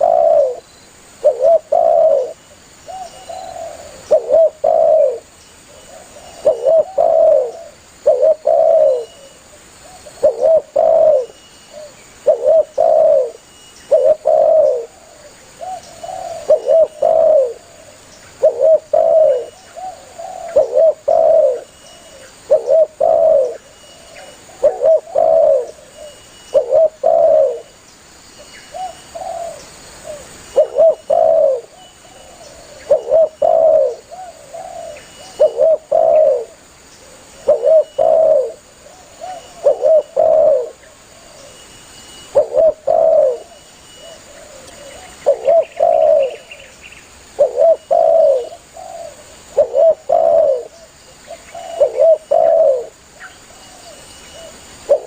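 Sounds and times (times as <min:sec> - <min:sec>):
dove cooing: 0:00.0 - 0:27.8, 0:28.7 - 0:41.6, 0:42.2 - 0:46.7, 0:47.3 - 0:55.0.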